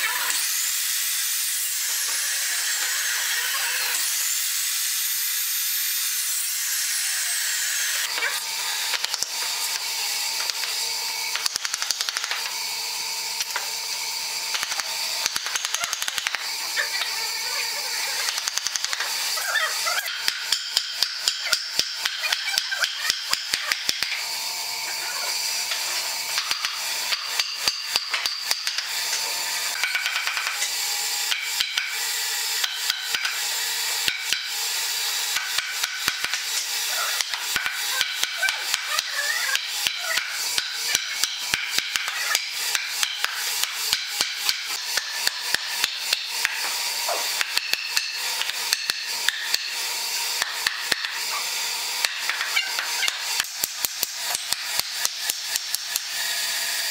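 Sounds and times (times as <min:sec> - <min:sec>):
saw blade winding down: 0:00.0 - 0:56.9.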